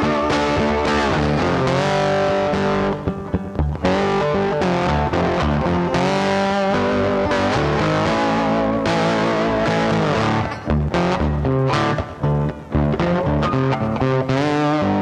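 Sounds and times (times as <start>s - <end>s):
guitar-led background music: 0.0s - 15.0s.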